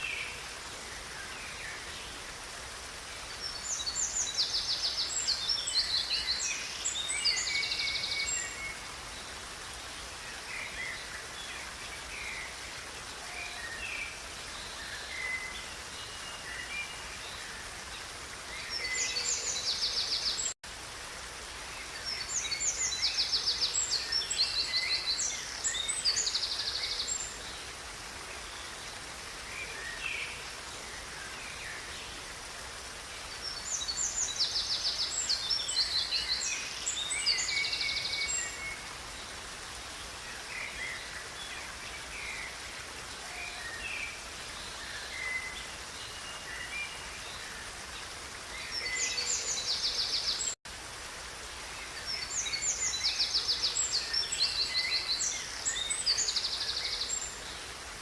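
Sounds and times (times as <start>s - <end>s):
songbirds trilling and chirping: 0.0s - 20.6s, 21.6s - 50.6s
river flowing: 0.0s - 58.0s.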